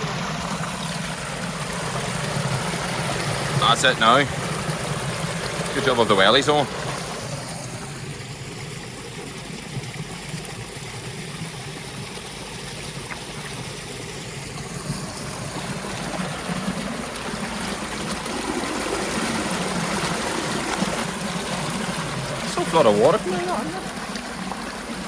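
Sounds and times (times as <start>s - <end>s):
stream of water flowing: 0.0s - 25.0s.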